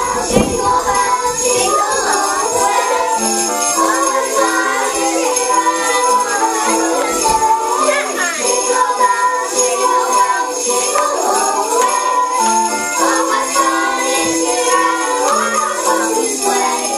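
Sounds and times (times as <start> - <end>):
music with sleigh bells: 0.0 - 16.9.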